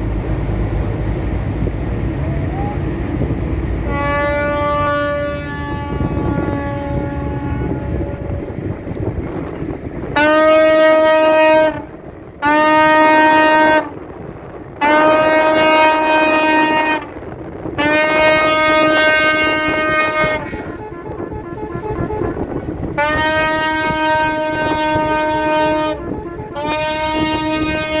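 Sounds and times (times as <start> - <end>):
ship's horn blasts: 0.0 - 28.0.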